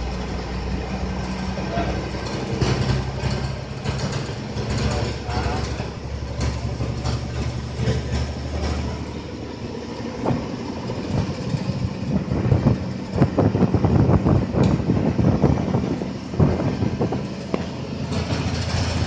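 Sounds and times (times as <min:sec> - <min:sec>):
bus body knocking and rattling: 0:00.0 - 0:19.0
bus engine drone: 0:00.0 - 0:19.0.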